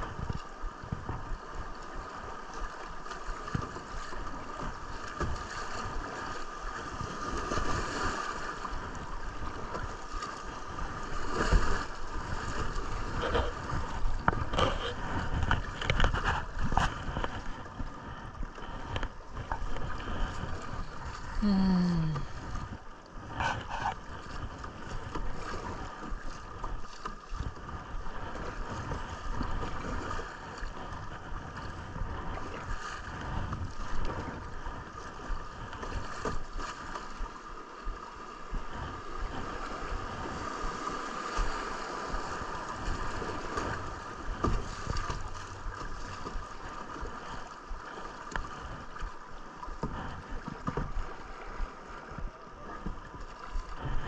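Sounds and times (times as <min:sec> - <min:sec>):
wind rumble on microphone: 0:00.0 - 0:54.0
river water rushing and gurgling: 0:01.4 - 0:54.0.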